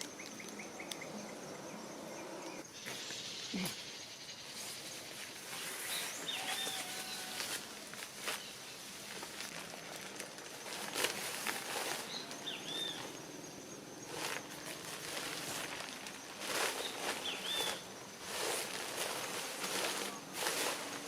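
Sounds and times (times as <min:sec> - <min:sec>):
steady hiss: 0:01.4 - 0:21.0.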